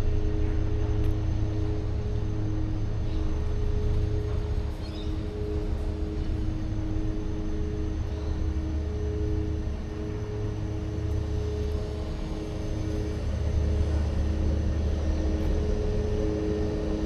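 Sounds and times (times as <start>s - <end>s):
large machinery droning hum: 0.0s - 17.0s.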